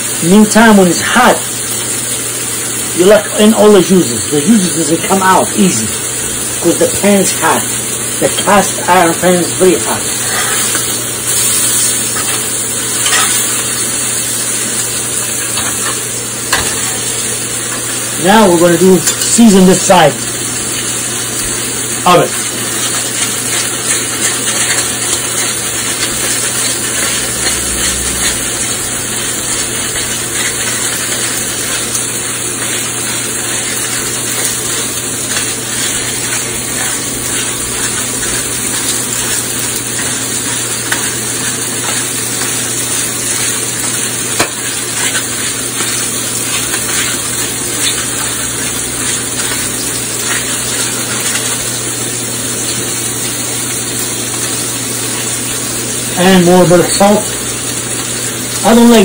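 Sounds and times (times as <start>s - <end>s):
steaks sizzling in a pan: 0.0s - 59.0s.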